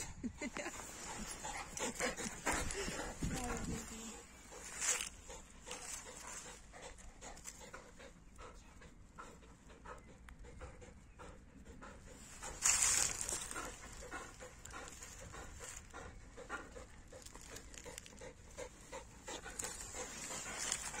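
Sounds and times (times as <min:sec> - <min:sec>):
dogs panting: 0:00.0 - 0:21.0.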